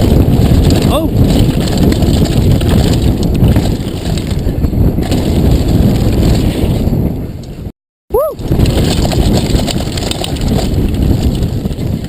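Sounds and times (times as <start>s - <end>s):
mountain bike rumble and rattle: 0.0s - 12.0s
wind over microphone: 0.0s - 12.0s.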